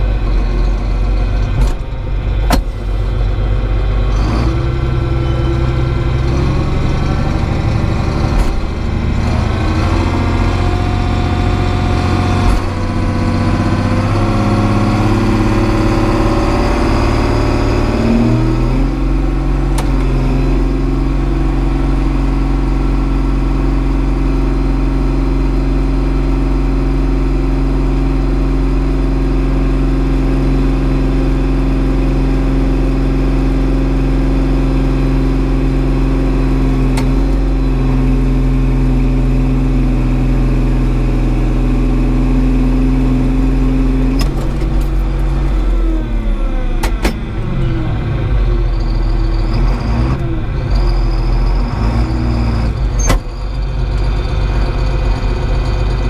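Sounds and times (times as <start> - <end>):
tractor diesel engine running hard: 0.0 - 56.0.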